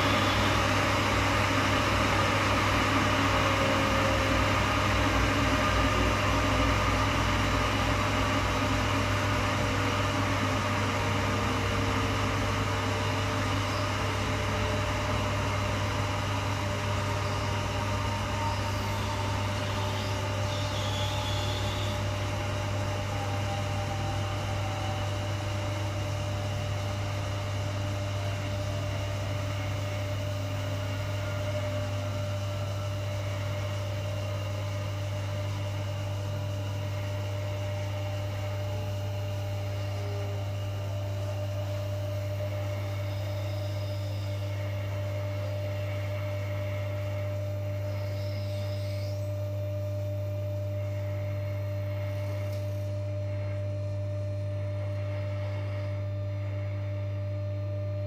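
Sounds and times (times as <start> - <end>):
faint high whine: 0.0 - 58.0
washing machine electrical hum: 0.0 - 58.0.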